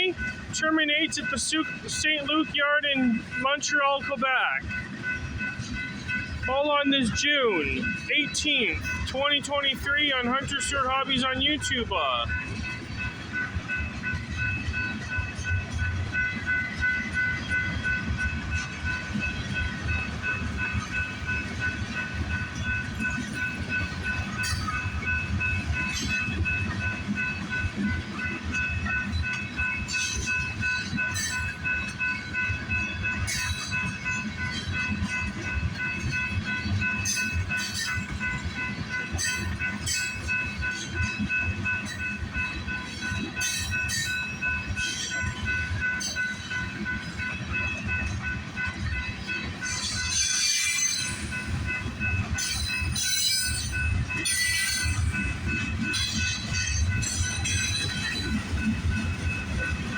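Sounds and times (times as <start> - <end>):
freight train wheels rumbling: 0.0 - 59.9
level-crossing bell ringing: 0.0 - 59.9.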